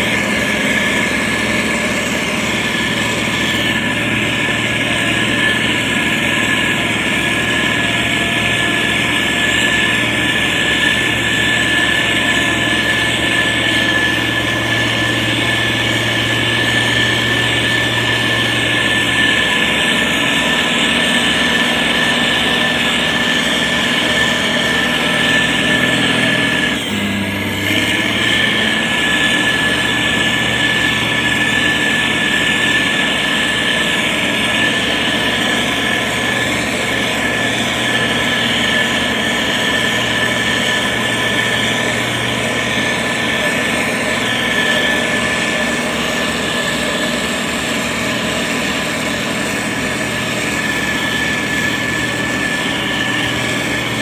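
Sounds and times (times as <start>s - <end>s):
constant high whine: 0.0s - 54.0s
grader diesel engine running: 0.0s - 54.0s.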